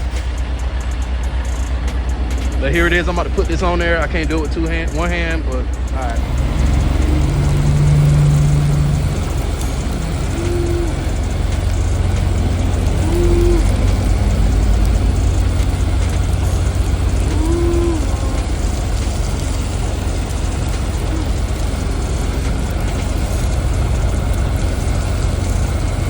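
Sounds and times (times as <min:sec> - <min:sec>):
low mechanical rumble: 0:00.0 - 0:26.0
short humming tones: 0:00.0 - 0:26.0.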